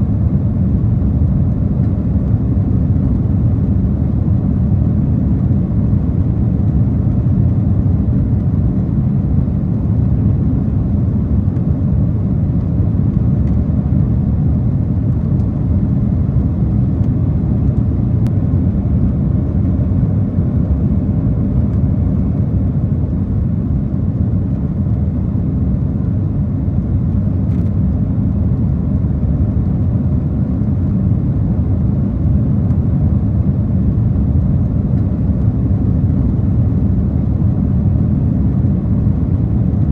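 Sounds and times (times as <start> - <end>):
jet engine cabin roar: 0.0 - 39.9.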